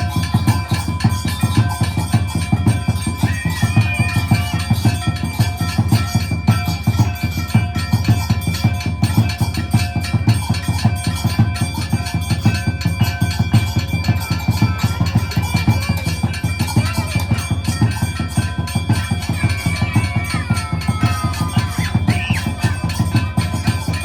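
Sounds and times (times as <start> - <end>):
fast steady drumming: 0.0 - 24.0
high ringing tones: 0.0 - 24.0.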